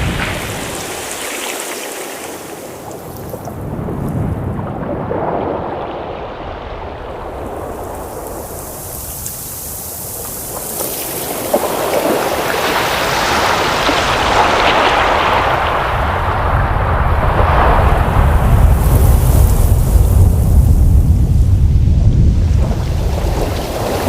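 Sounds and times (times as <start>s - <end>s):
ocean waves washing in: 0.0s - 24.0s.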